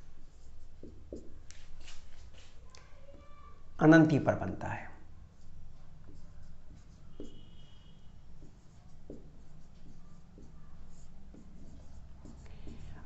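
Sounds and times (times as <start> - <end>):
marker writing on whiteboard: 0.0 - 3.8, 4.9 - 13.0.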